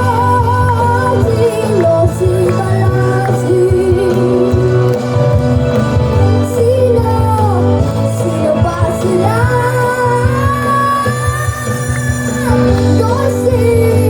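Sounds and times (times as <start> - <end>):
girl singing with vibrato: 0.0 - 4.6, 6.4 - 14.0
pop-rock backing track: 0.0 - 14.0.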